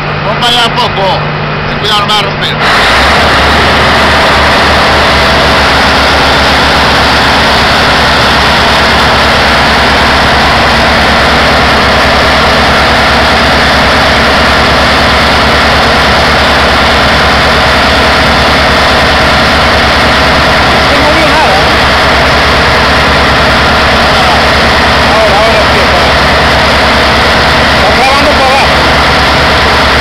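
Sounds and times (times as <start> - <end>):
diesel engine rumbling: 0.0 - 30.0
propeller wash rushing: 0.0 - 30.0.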